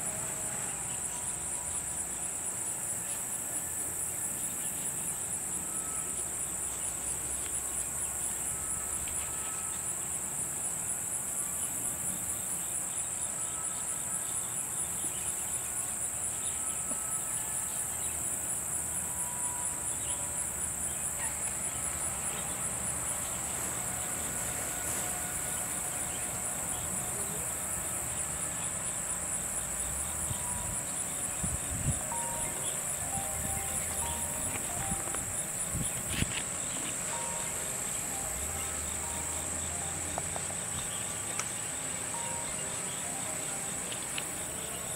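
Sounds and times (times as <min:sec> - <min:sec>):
insects chorus pulsing: 0:00.0 - 0:44.9.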